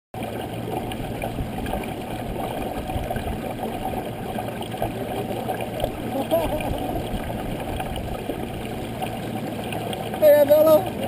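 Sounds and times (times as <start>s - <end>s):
small waves lapping against canoe: 0.2s - 11.0s.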